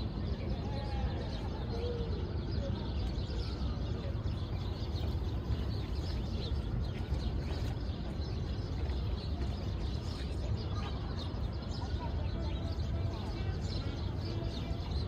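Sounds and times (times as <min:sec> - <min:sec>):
low hum of city traffic: 0:00.0 - 0:15.0
small birds chirping: 0:00.0 - 0:15.0.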